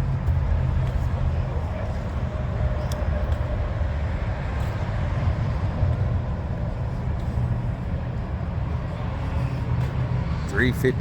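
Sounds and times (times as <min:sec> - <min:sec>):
truck engines idling: 0:00.0 - 0:11.0.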